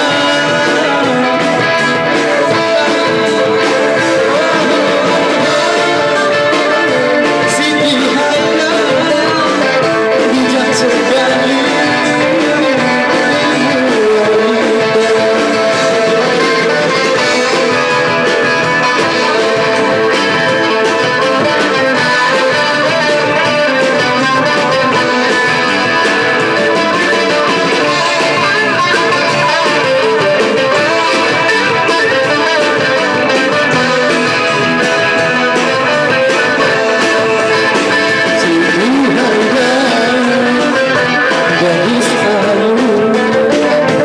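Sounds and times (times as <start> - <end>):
bass guitar: 0.0 - 44.0
drums: 0.0 - 44.0
electric guitars: 0.0 - 44.0.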